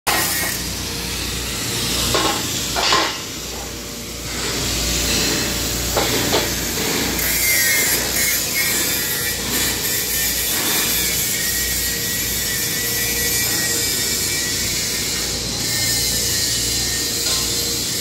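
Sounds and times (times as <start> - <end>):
arc welding hiss and crackle: 0.1 - 18.0.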